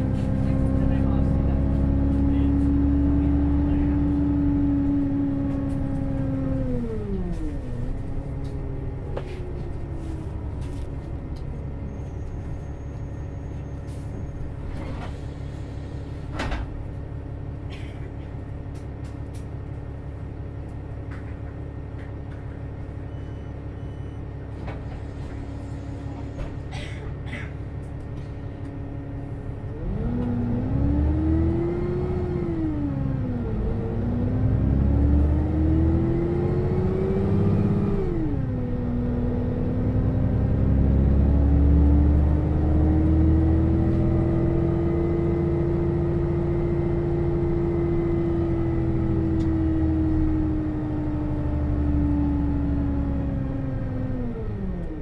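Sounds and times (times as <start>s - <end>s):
bus drive whine: 0.0s - 55.0s
bus low hum: 0.0s - 55.0s.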